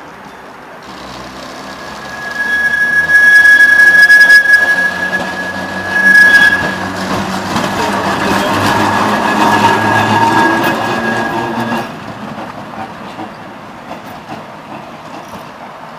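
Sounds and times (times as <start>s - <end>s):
tram running gear rumble: 0.2s - 15.9s
tram wheels squealing: 0.2s - 15.9s.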